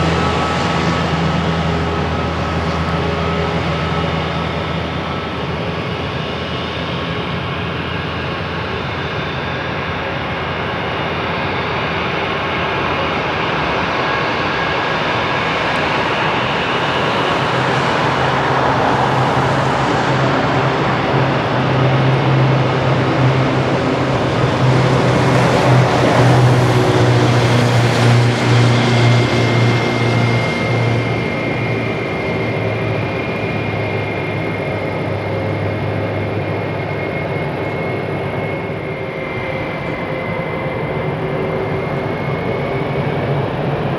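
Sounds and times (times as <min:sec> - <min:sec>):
jet engine high whine: 0:00.0 - 0:43.9
jet engines at power: 0:00.0 - 0:43.9.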